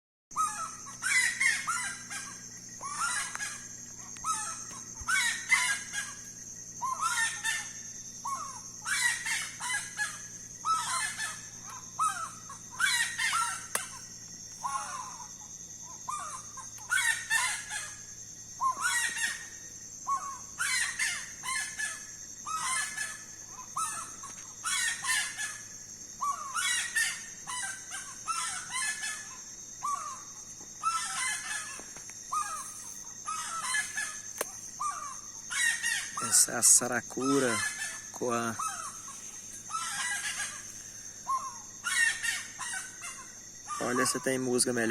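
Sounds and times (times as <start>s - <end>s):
bird calling harshly: 0.3s - 6.2s, 6.8s - 44.4s.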